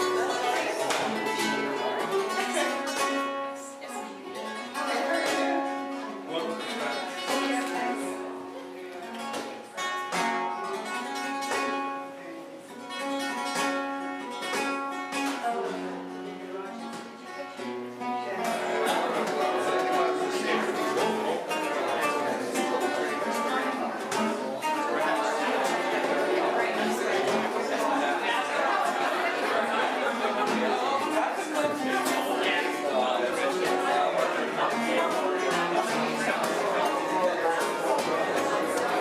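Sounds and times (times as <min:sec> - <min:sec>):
flamenco guitar: 0:00.0 - 0:39.0.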